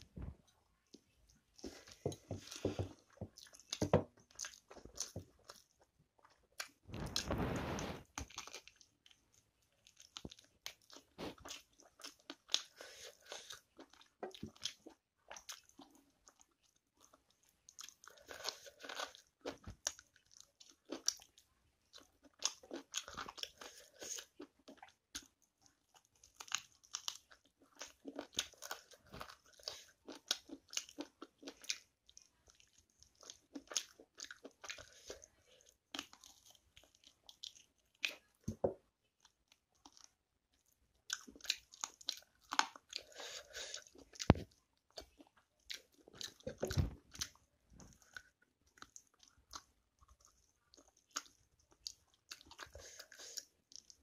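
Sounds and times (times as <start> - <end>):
chewing chicken on the bone: 1.6 - 38.4, 39.1 - 54.0.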